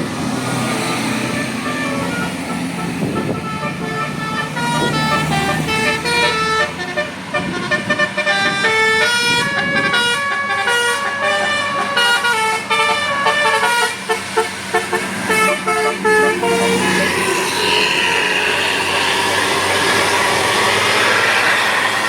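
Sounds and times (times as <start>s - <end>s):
multi-tone bus horn tune: 0.7s - 22.0s.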